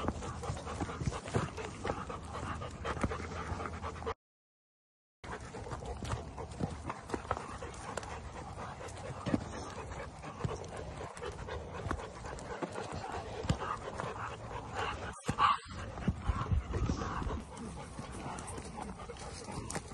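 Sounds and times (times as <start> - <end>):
dogs panting: 0.0 - 4.2, 5.2 - 19.9.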